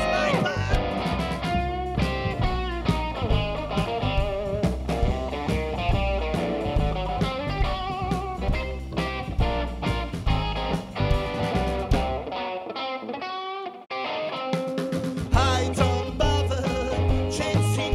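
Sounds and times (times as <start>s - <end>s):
electric guitar: 0.0s - 17.9s.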